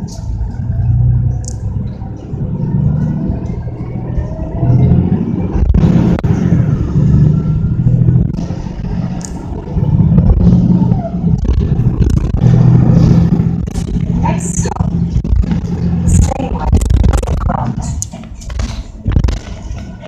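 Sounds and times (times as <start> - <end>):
bus engine running: 0.0 - 20.0
road noise: 0.0 - 20.0.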